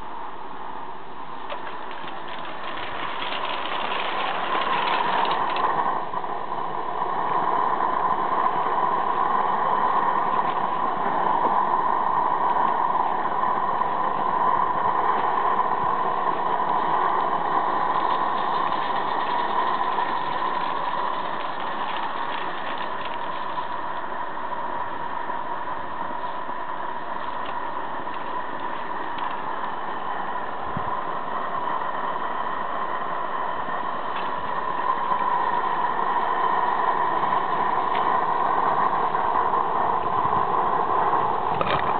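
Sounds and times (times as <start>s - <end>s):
model steam locomotive hissing: 0.0s - 41.9s.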